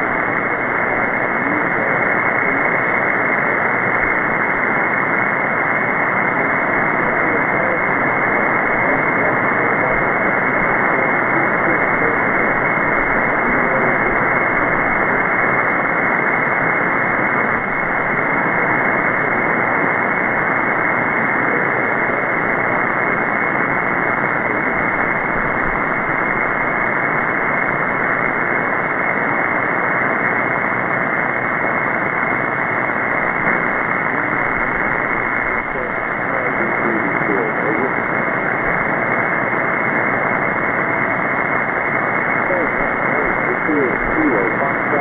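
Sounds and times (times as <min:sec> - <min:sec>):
shortwave radio static hiss: 0:00.0 - 0:45.0.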